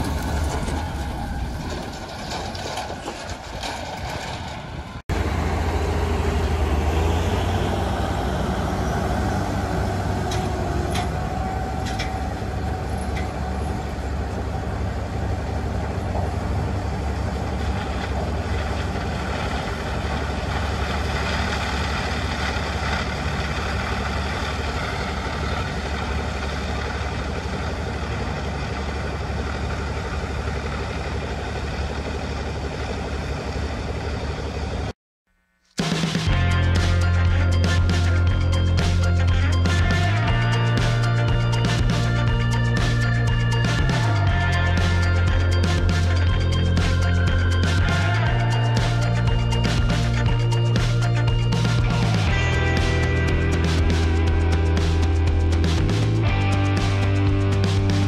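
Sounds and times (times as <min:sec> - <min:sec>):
deep engine rumble: 0:00.0 - 0:34.9, 0:36.3 - 0:58.0.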